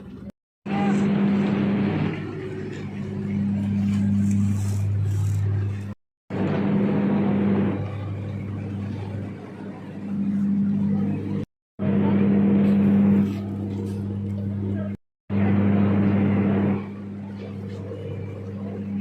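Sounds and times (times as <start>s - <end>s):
passenger train running: 0.0s - 19.0s.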